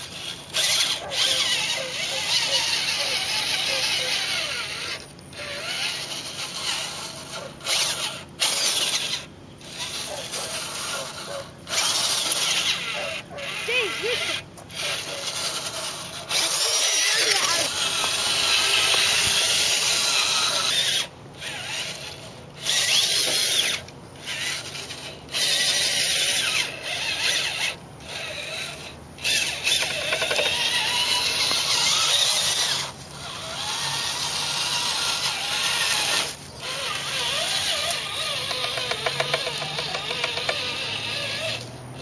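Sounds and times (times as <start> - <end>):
electric motor mechanical whine: 0.0 - 42.0.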